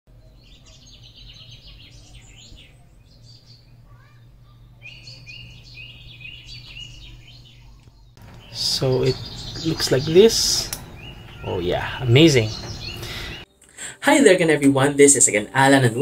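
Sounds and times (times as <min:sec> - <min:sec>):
small birds chirping: 0:00.1 - 0:14.3
steady low hum: 0:00.1 - 0:14.6.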